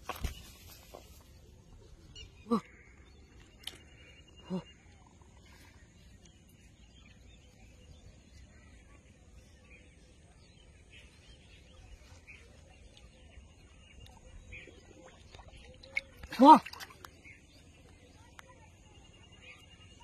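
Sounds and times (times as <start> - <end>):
faint chirps: 0.2 - 20.0.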